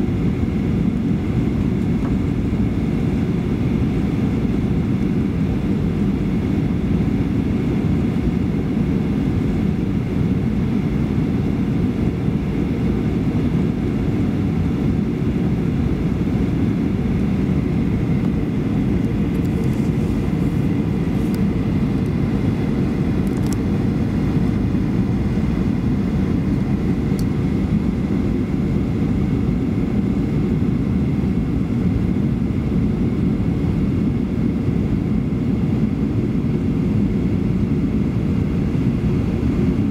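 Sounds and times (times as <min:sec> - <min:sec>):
aircraft cabin rumble: 0:00.0 - 0:39.9.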